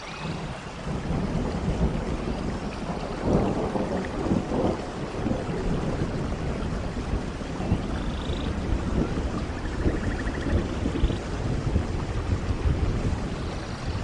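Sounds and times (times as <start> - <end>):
steady rainfall: 0.0 - 14.0
thunder rumble: 0.0 - 14.0.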